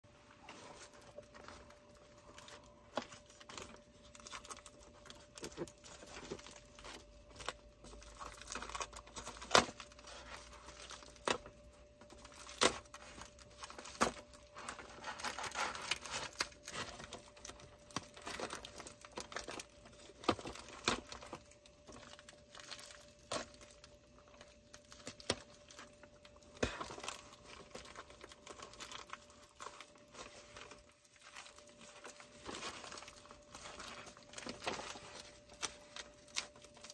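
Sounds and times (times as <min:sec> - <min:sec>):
plastic packaging crinkling: 0:00.1 - 0:36.9.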